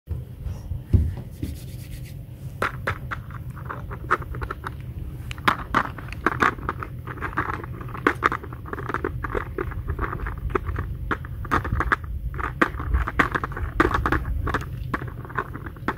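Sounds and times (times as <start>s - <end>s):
steady low rumble: 0.1s - 15.9s.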